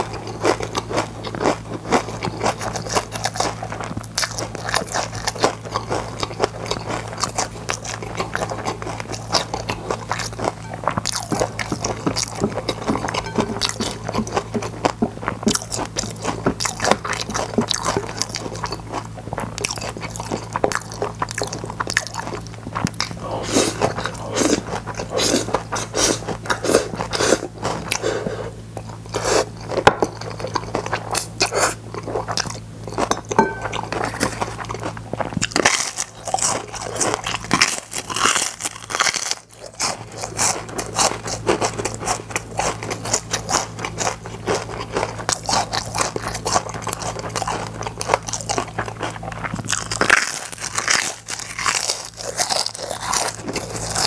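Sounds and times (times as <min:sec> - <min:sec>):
chewing crispy chips: 0:00.0 - 0:54.0
steady low hum: 0:00.0 - 0:54.0.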